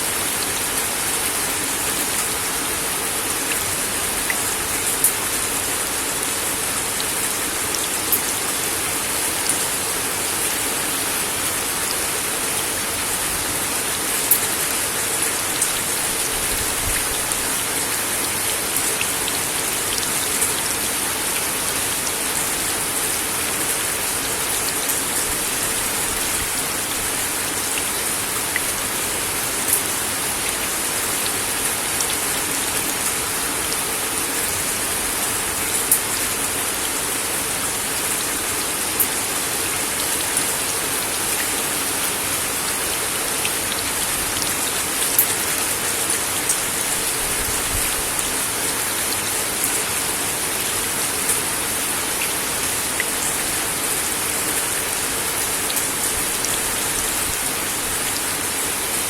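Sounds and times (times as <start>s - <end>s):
rain on a wooden deck: 0.0s - 59.0s.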